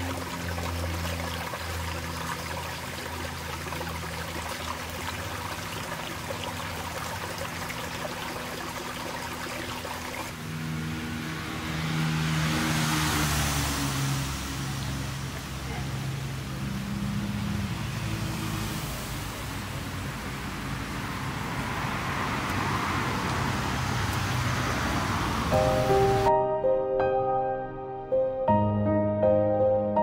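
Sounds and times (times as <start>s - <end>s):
stream trickling over rocks: 0.0s - 10.6s, 11.4s - 26.3s
road traffic hum: 0.0s - 26.3s.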